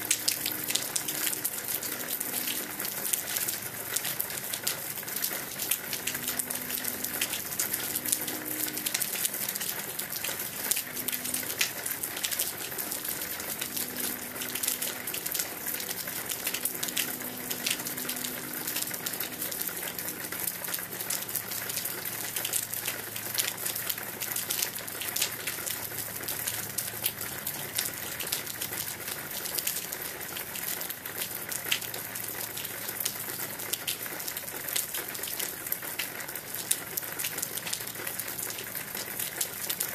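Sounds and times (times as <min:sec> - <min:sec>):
rain drops splashing on hard surfaces: 0:00.0 - 0:39.9.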